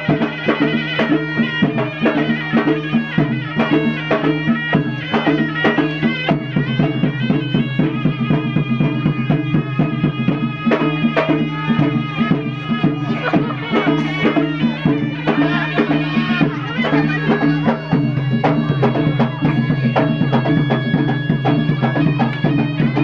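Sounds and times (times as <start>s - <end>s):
fast hand drum beat: 0.0s - 23.0s
reedy wind instrument melody: 0.0s - 23.0s.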